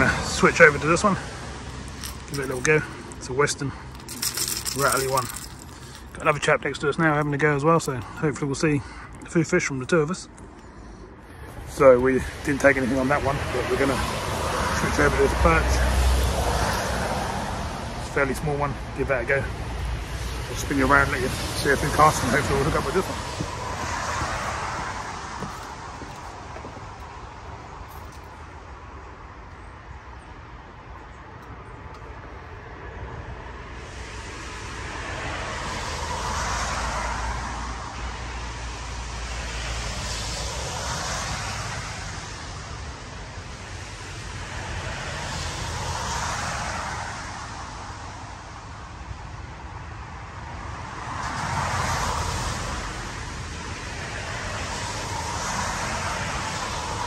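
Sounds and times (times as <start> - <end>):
cars passing on road: 0.0 - 57.0.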